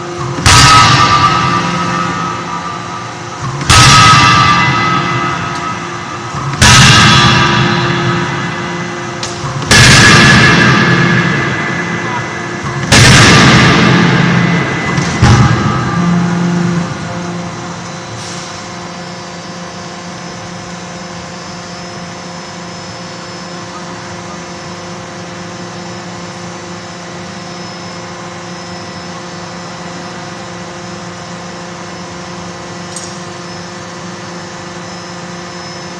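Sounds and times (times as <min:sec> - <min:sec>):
machine hum: 0:00.0 - 0:35.9.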